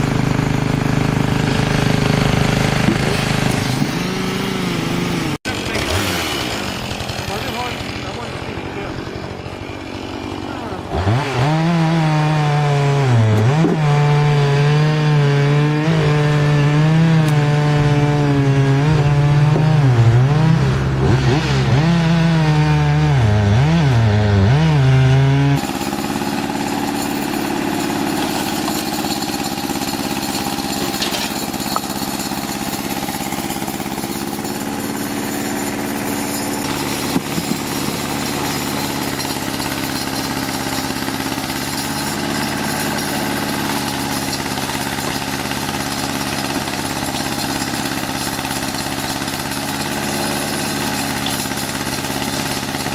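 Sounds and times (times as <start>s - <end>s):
engine running steadily: 0.0s - 11.6s, 13.0s - 52.9s
chainsaw cutting: 0.0s - 52.9s.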